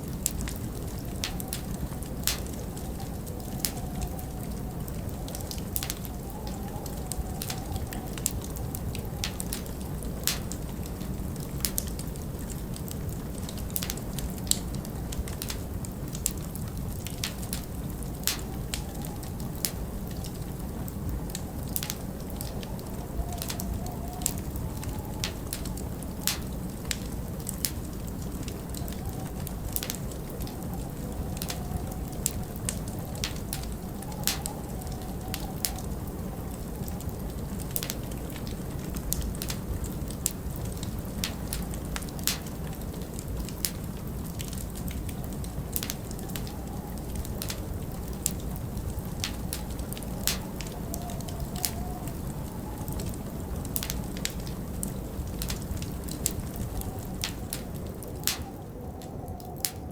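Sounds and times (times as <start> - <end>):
low rumble of wind: 0.0 - 59.9
wood fire crackling: 0.0 - 59.9.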